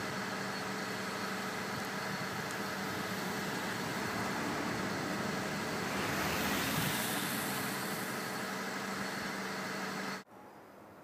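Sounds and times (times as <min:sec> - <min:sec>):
passing car traffic: 0:00.1 - 0:10.3.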